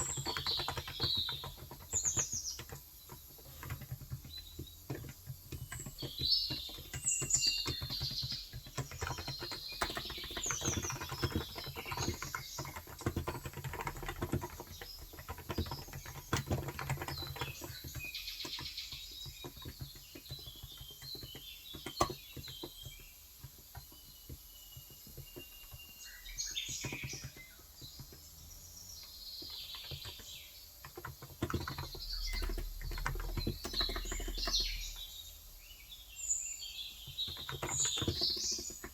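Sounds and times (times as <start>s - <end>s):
keyboard typing: 0.0s - 35.5s, 37.0s - 38.9s
birds chirping: 0.0s - 38.9s.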